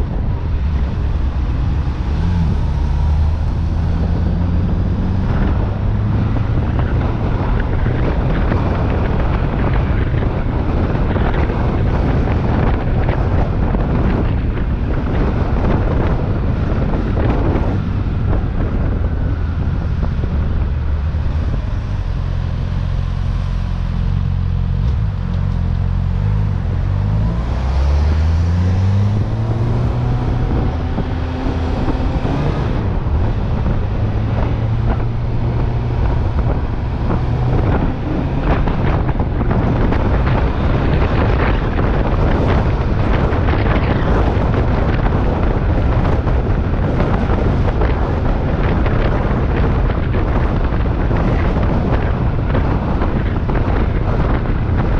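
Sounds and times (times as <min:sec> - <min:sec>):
road noise: 0:00.0 - 0:54.9
vehicle engine accelerating: 0:00.0 - 0:54.9
wind buffeting microphone: 0:00.0 - 0:54.9.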